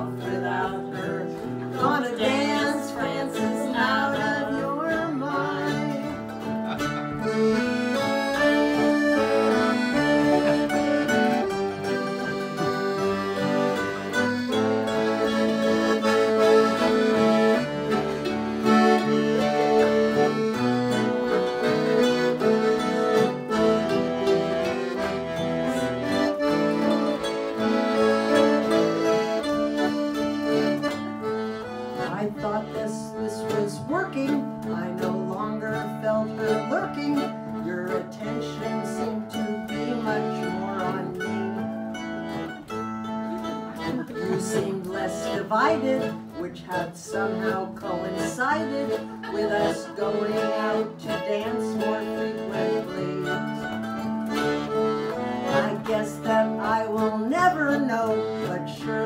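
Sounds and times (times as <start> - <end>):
accordion melody: 0.0 - 59.0
plucked mandolin: 0.0 - 59.0
strummed acoustic guitar: 0.0 - 59.0.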